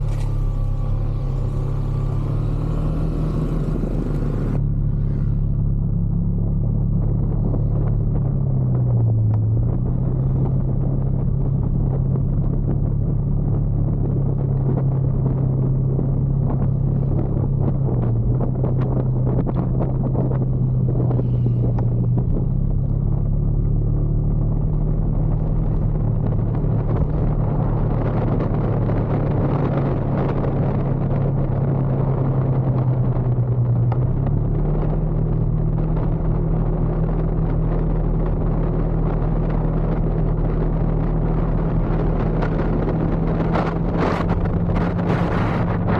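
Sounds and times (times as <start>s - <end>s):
road and wind noise: 0.0s - 45.9s.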